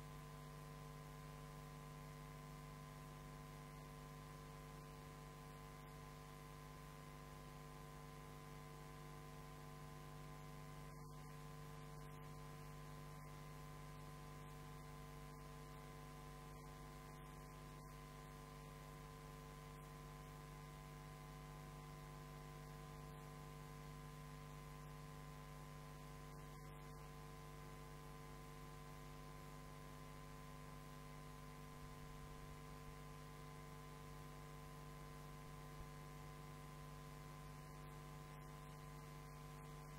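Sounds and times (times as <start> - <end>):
faint electrical mains hum: 0.0 - 39.9.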